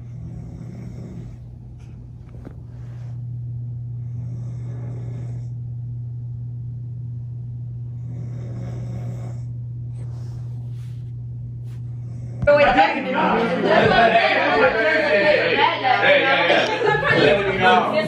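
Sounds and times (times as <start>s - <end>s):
dull rumble: 0.0s - 16.0s
steady low hum: 0.0s - 18.0s.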